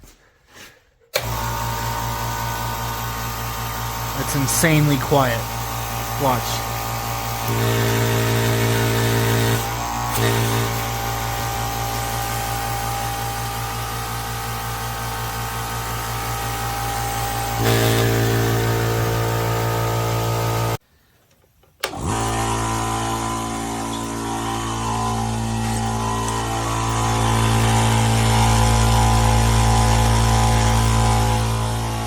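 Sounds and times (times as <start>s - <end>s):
air compressor running: 1.1s - 20.8s, 21.8s - 32.0s.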